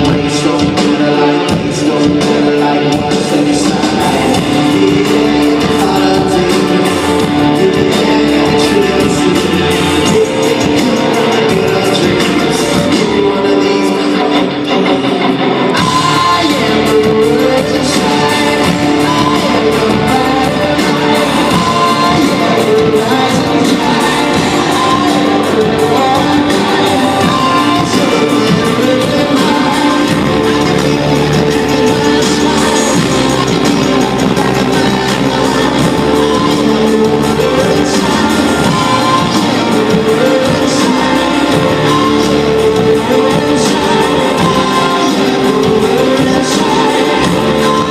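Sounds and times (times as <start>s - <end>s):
guitar: 0.0s - 47.9s
loud music with held notes: 0.0s - 47.9s
person singing: 0.0s - 47.9s
rock band playing: 0.0s - 47.9s.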